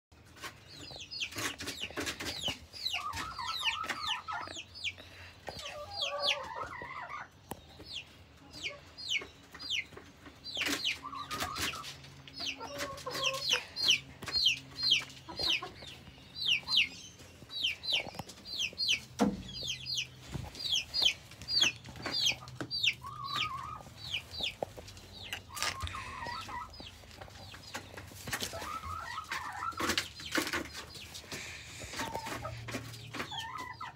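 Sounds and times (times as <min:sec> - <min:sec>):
chicks peeping: 0:00.2 - 0:33.9
hens clucking: 0:00.2 - 0:33.9.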